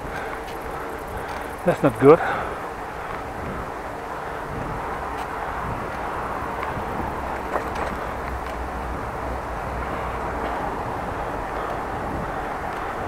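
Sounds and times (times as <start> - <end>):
bicycle tyres rolling on pavement: 0.0 - 13.0
wind noise on microphone: 0.0 - 13.0.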